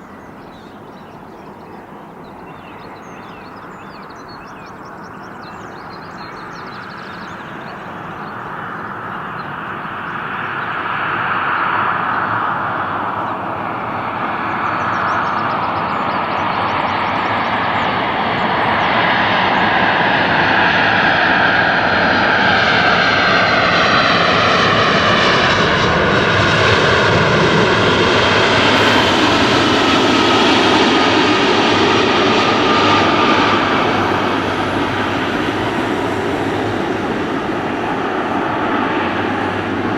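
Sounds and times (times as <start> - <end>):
airliner engines passing: 0.0 - 39.9.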